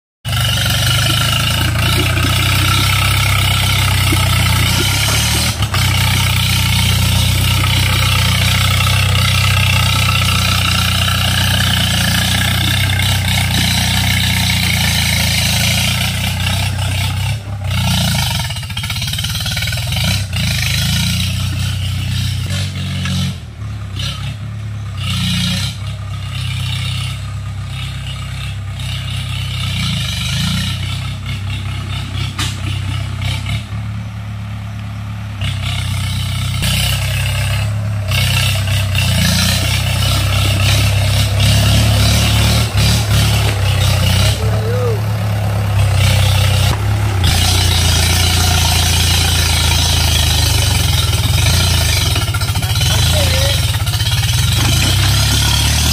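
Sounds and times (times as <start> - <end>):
tractor diesel engine running: 0.2 - 55.9.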